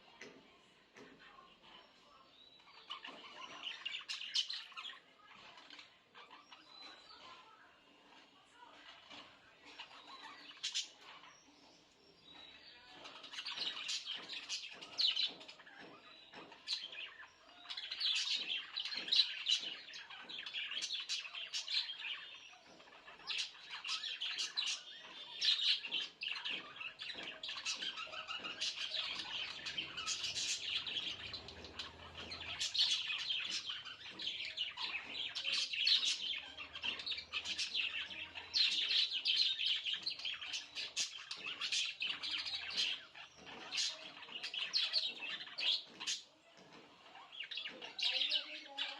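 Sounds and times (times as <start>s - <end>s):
budgerigars chirping and chattering: 0.0s - 48.9s.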